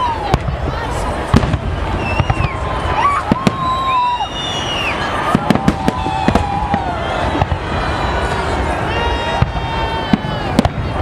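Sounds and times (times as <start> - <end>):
fireworks bangs and crackles: 0.0 - 11.0
fireworks whistling: 0.0 - 11.0.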